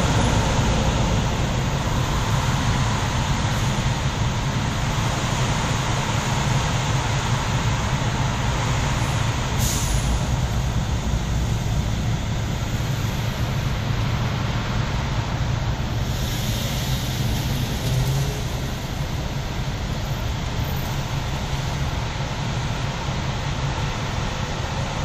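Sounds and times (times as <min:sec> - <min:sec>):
car engine hum: 0:00.0 - 0:25.0
road and traffic noise: 0:00.0 - 0:25.0.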